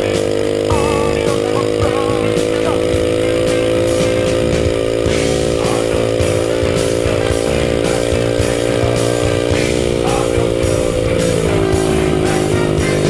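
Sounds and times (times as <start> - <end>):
minibike engine cruising: 0.0 - 13.0
rock music with steady beat: 0.0 - 13.0.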